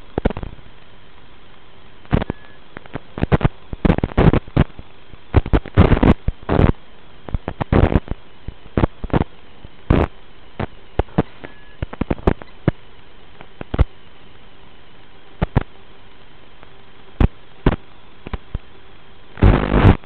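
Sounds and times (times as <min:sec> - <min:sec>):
crackling and popping bursts: 0:00.0 - 0:14.0, 0:15.4 - 0:18.7, 0:19.3 - 0:20.0
steady hiss: 0:00.0 - 0:20.0.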